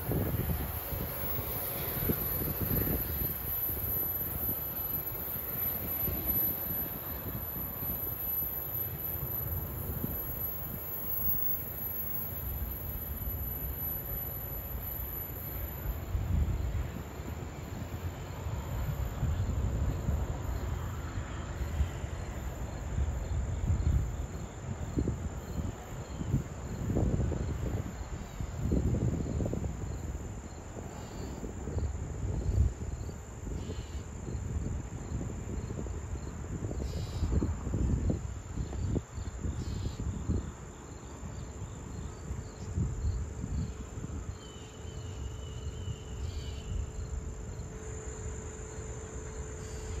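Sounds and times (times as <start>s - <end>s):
faint insect chirp: 0.0s - 50.0s
insects trilling: 0.0s - 50.0s
low rumbling gusts: 0.0s - 50.0s.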